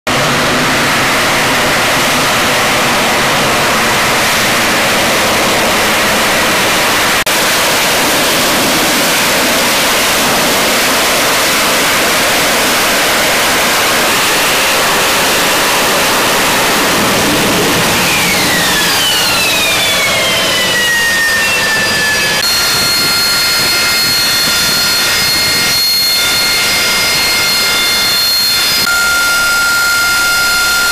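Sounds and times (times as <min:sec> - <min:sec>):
jet engine high-pitched whine: 0:00.1 - 0:30.9
jet engine roaring: 0:00.1 - 0:30.9.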